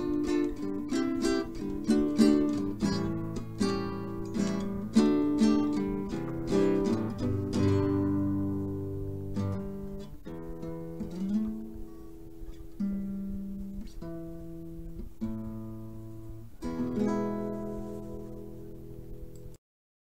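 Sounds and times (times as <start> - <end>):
acoustic guitar chords and plucking: 0.0 - 19.6.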